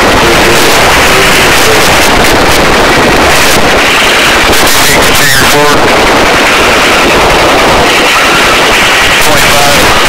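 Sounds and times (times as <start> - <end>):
helicopter rotor and engine: 0.0 - 10.0.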